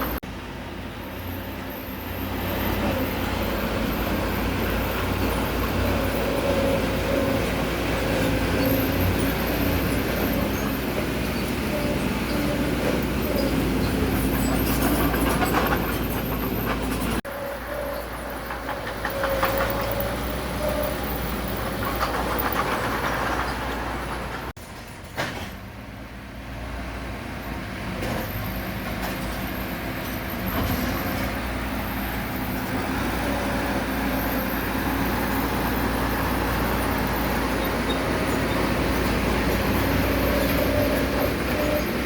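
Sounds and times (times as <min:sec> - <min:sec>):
diesel engine drone: 0:00.0 - 0:24.6, 0:25.8 - 0:42.0.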